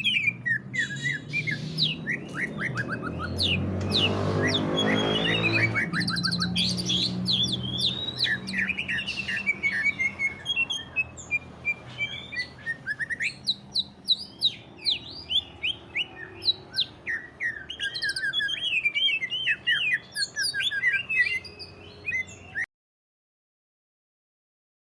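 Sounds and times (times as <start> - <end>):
leafbird singing rapid song: 0.0 - 22.7.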